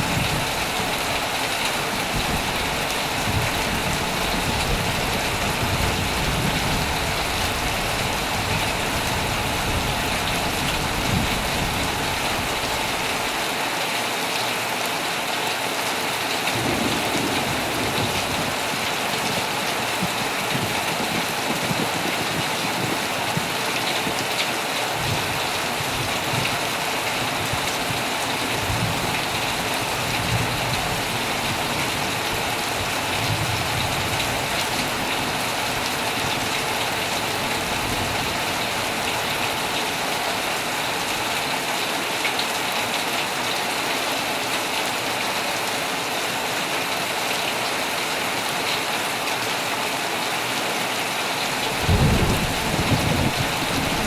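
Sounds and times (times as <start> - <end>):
heavy rain drumming on a tent: 0.0 - 54.0.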